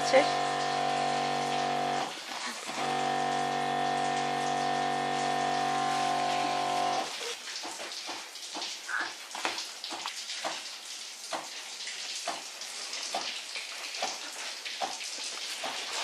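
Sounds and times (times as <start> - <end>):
water hissing and spattering: 0.0 - 16.0.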